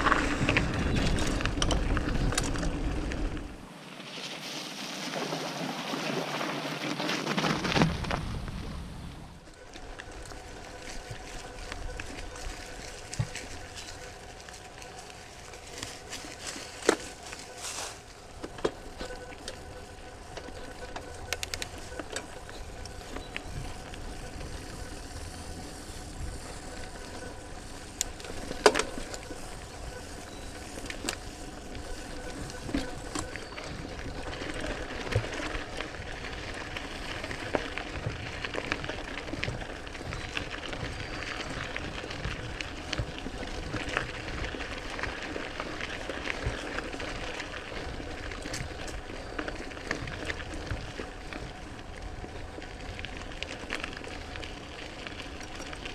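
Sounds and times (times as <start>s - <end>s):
bike frame rattling: 0.0s - 3.6s, 9.6s - 55.9s
bike tyres rumbling on dirt: 0.0s - 55.9s.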